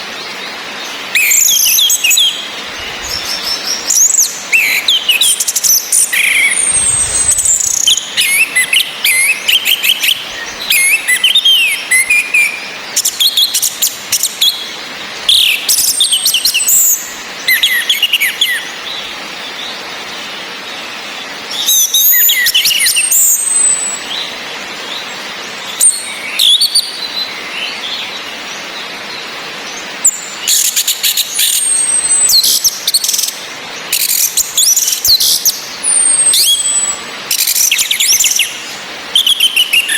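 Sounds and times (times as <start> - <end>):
rain hiss: 0.0 - 39.9
thrushes calling and singing: 0.0 - 39.9.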